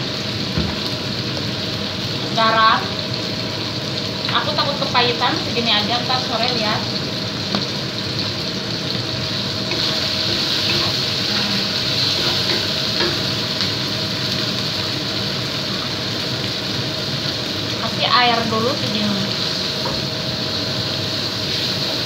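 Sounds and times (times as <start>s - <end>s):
chicken sizzling in a wok: 0.0s - 22.0s.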